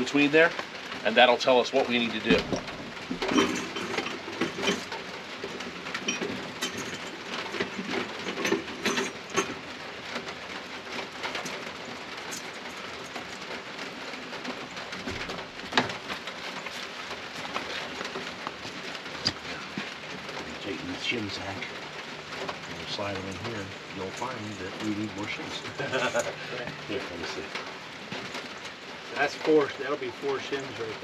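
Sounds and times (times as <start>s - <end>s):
rain hissing: 0.0s - 31.0s
metal clinks and knocks: 2.0s - 31.0s.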